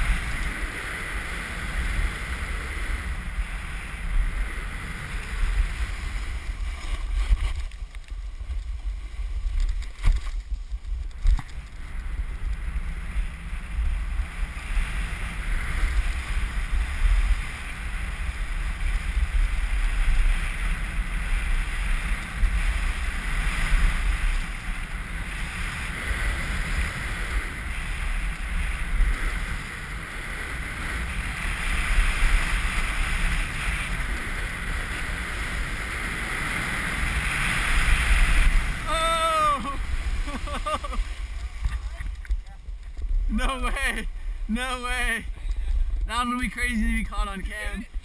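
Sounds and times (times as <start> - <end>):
snowboard carving on snow: 0.0 - 48.0
wind buffeting microphone: 0.0 - 48.0.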